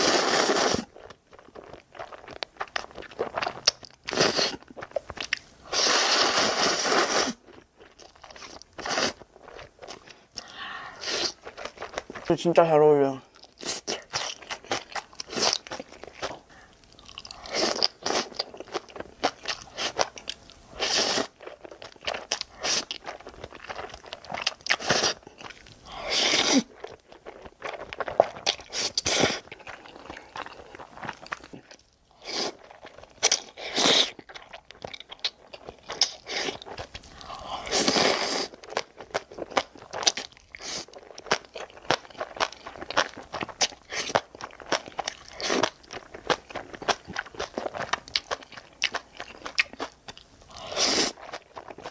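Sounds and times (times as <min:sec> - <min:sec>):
person chewing crunchy food: 0:00.0 - 0:12.4, 0:13.2 - 0:51.9.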